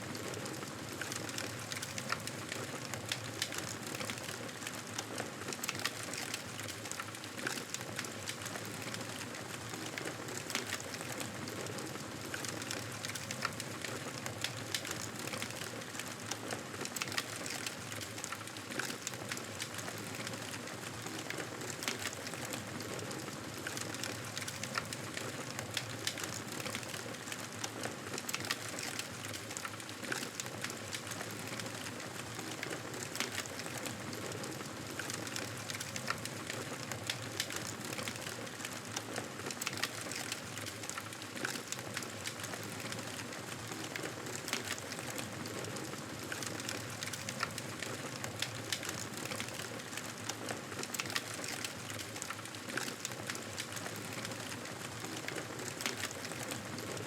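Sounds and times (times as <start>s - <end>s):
fire crackling and popping: 0.1s - 56.8s.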